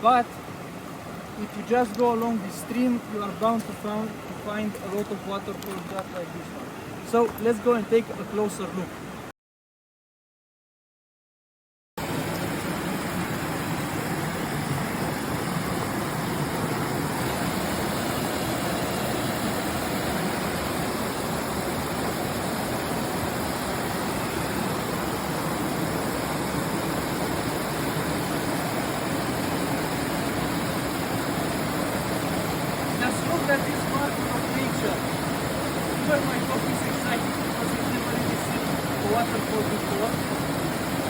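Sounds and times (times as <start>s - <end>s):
rush of falling water: 0.0s - 9.3s, 12.0s - 41.0s.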